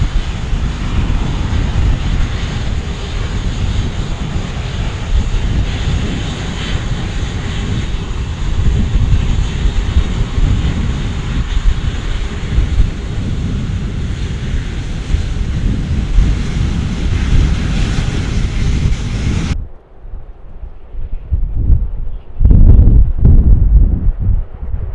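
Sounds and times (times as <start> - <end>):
aircraft engines rumbling: 0.0 - 24.9.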